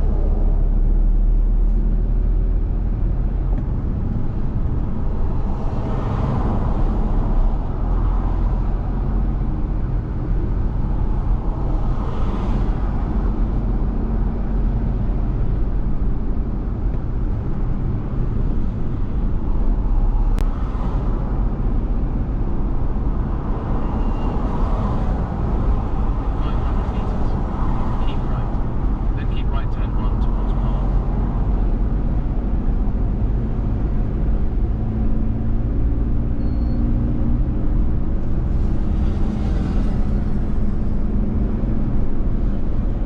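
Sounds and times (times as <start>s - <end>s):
car driving on wet road: 0.0s - 36.3s, 37.0s - 43.0s.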